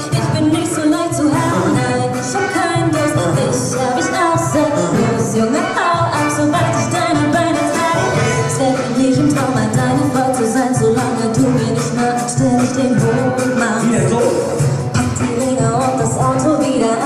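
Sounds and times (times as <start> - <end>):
live pop band playing: 0.0 - 17.0
woman singing: 0.0 - 17.0.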